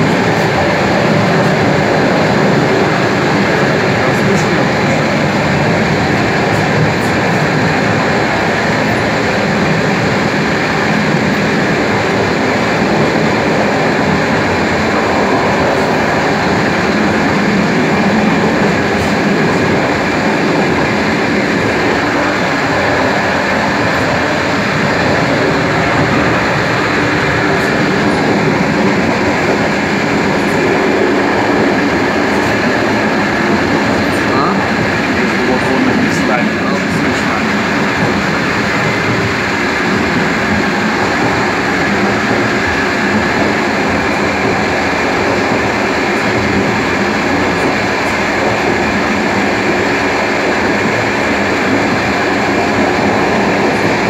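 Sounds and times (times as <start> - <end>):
diesel railcar running noise: 0.0 - 54.0
wheels clattering on rails: 0.0 - 54.0.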